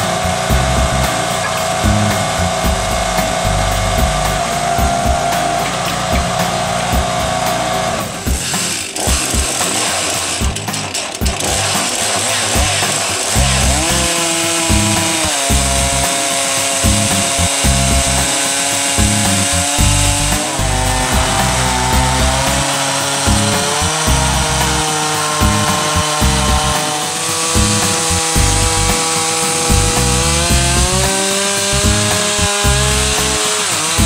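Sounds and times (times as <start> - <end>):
background music: 0.0 - 34.0
chainsaw cutting log: 0.0 - 34.0.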